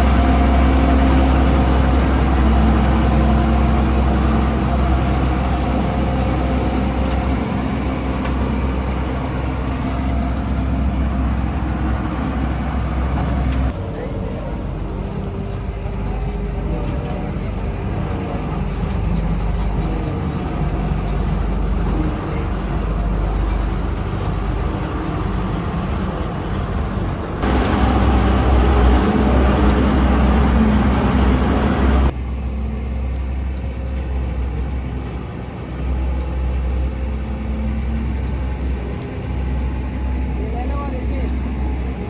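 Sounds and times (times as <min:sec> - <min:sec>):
farm machinery engine running: 0:00.0 - 0:42.0.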